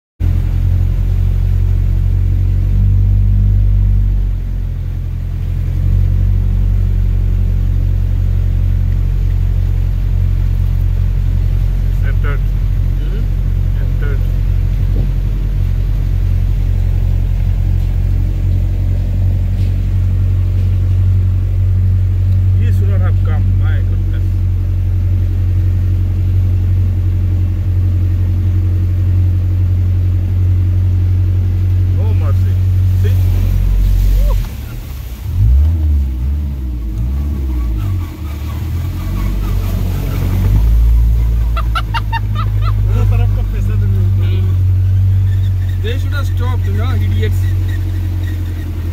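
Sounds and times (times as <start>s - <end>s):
vehicle engine rumble from cabin: 0.2s - 48.9s
water rushing against car: 0.2s - 48.9s.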